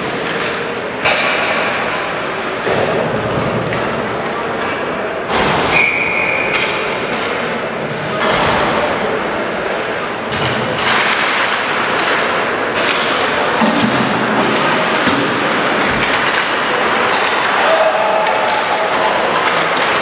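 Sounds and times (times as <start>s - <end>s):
hockey sticks clacking: 0.0s - 20.0s
spectators talking: 0.0s - 20.0s.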